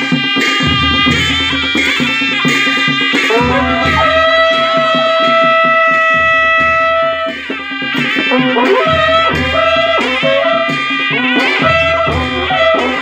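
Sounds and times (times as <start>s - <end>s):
steady drum rhythm: 0.0s - 13.0s
wind instrument melody: 0.0s - 13.0s.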